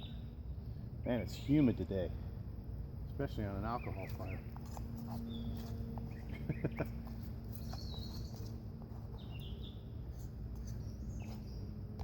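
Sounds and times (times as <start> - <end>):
birds chirping: 0.0 - 2.3, 3.2 - 12.0.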